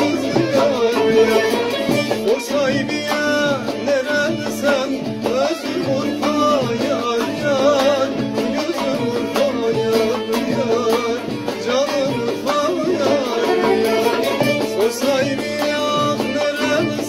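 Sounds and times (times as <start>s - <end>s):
plucked long-necked lute melody: 0.0s - 17.0s.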